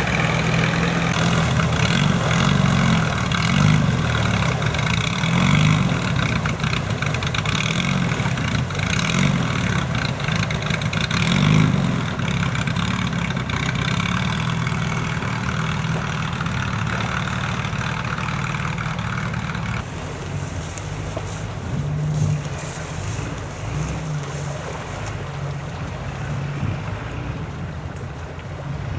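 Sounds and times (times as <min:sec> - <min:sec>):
engine revving: 0:00.0 - 0:28.9.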